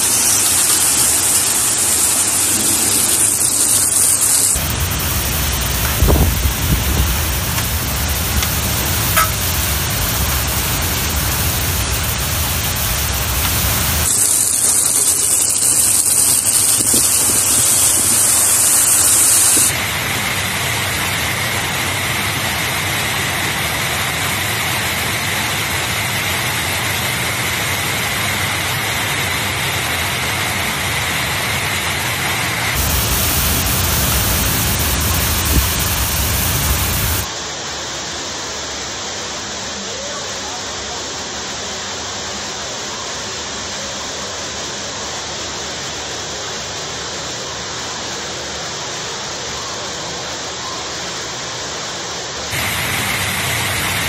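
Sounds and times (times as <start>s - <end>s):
heavy rain: 0.0s - 54.0s
wind: 0.0s - 54.0s.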